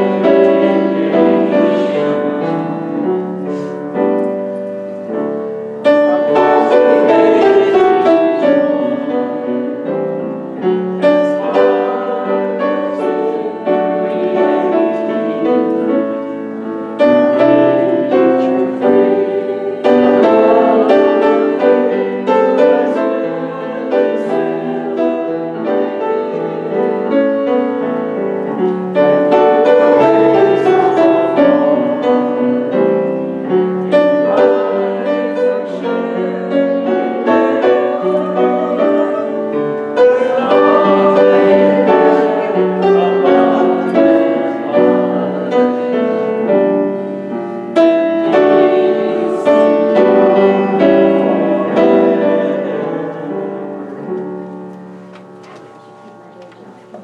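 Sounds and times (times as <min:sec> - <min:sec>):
piano playing a hymn: 0:00.0 - 0:57.0.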